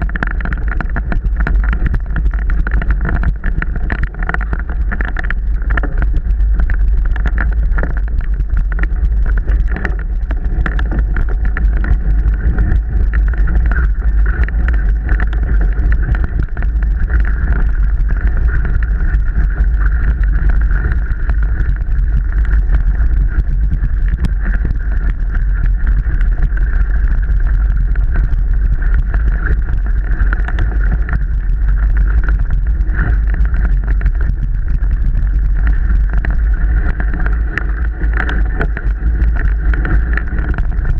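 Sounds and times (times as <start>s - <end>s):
bike rattling over ground: 0.0s - 40.9s
wind buffeting microphone: 0.0s - 40.9s.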